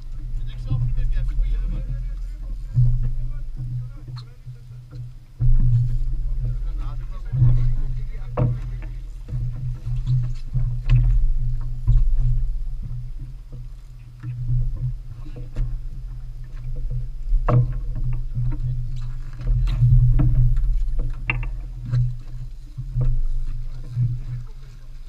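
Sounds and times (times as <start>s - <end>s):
boat engine rumble: 0.0s - 25.0s
water slapping a hull: 0.0s - 25.0s.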